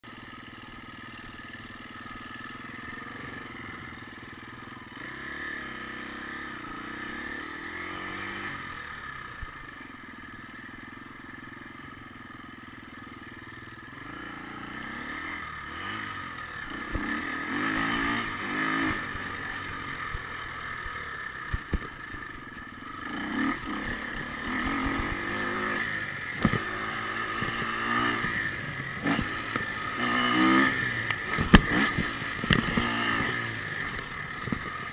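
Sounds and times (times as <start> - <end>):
motorbike engine revving: 1.2 - 9.5, 13.9 - 34.9.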